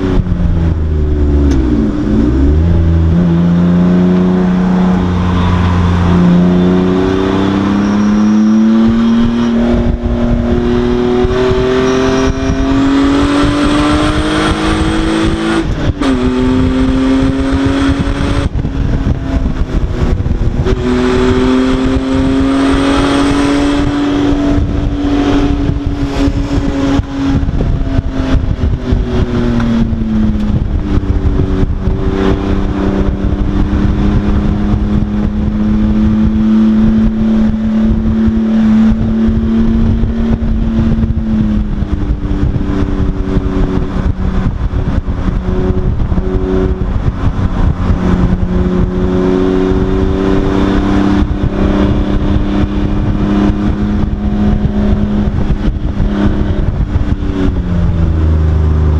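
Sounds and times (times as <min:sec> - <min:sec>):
race car engine: 0:00.0 - 0:58.9
wind and road noise: 0:00.0 - 0:58.9.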